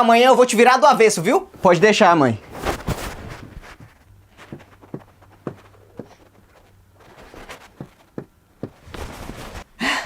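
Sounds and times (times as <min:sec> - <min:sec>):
faint low hum: 0:01.2 - 0:10.0
light footsteps: 0:01.5 - 0:09.6.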